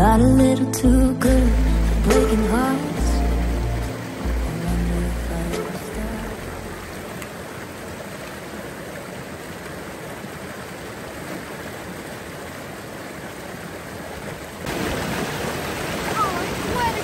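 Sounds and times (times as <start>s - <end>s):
water rushing over boulders: 1.2s - 17.0s.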